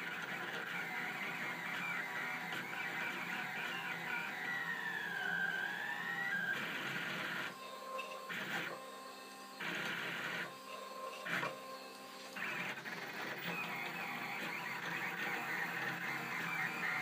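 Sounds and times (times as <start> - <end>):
stepper motors whirring: 0.0 - 17.0.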